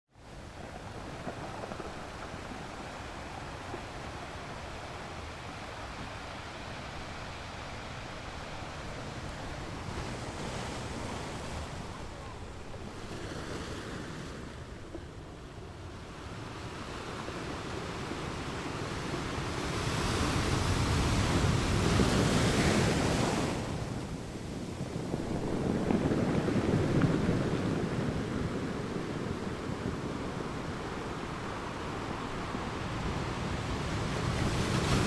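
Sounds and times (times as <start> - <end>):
sea waves washing onto shore: 0.2 - 35.0
wind buffeting microphone: 0.2 - 35.0.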